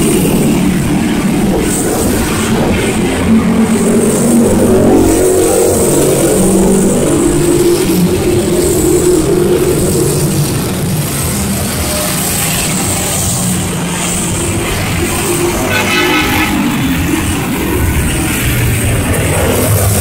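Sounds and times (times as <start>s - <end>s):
constant low rumble: 0.0s - 20.0s
motorcycle and car engines: 0.0s - 20.0s.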